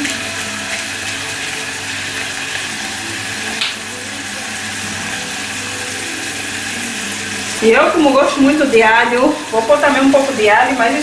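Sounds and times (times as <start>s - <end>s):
onion and tomato sizzling in oil: 0.0s - 11.0s.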